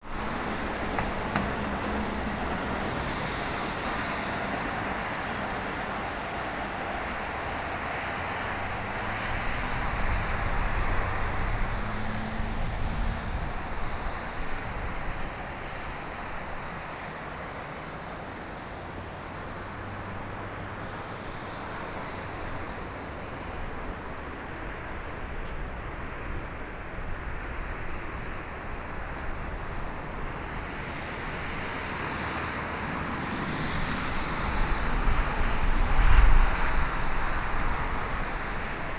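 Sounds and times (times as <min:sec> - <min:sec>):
gusty wind: 0:00.0 - 0:38.9
jet airliner engine noise: 0:00.1 - 0:38.9.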